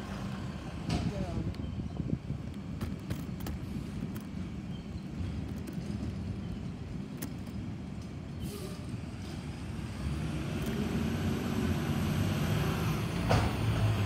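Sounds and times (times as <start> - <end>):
truck engine rumble: 0.0 - 14.0.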